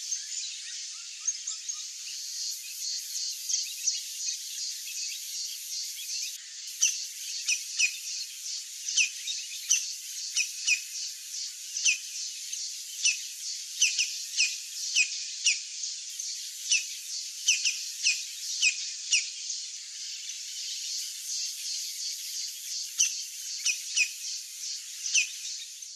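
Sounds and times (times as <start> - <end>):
pulsing insect drone: 2.1 - 25.9.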